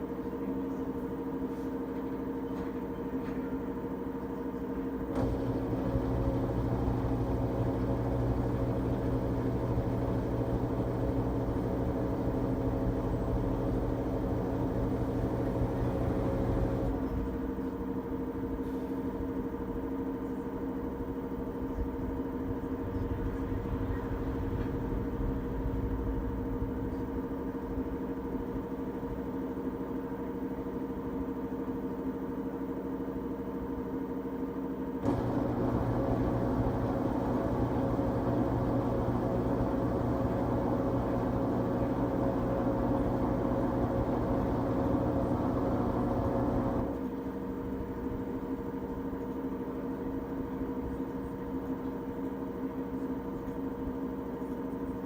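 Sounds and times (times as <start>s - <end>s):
washing machine motor hum: 2.2s - 55.0s.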